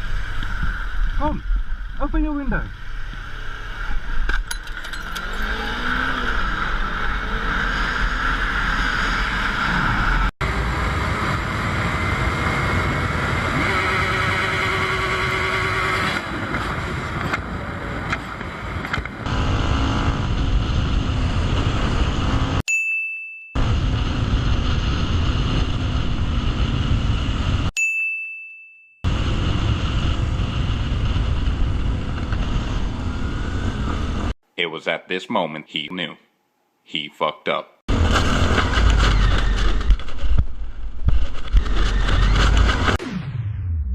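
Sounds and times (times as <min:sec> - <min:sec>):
road noise: 0:00.0 - 0:22.6, 0:23.6 - 0:27.7, 0:29.0 - 0:34.4, 0:37.9 - 0:43.0
vehicle engine: 0:00.0 - 0:22.6, 0:23.6 - 0:27.7, 0:29.1 - 0:34.4, 0:37.9 - 0:43.9.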